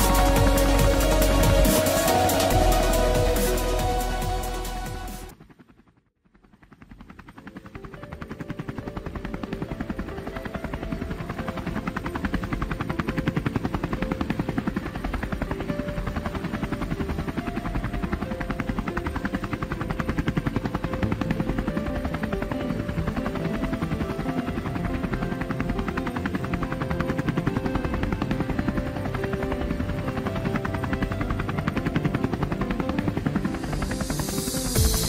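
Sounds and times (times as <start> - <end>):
drone propellers buzzing whine: 0.0 - 5.7, 6.6 - 35.0.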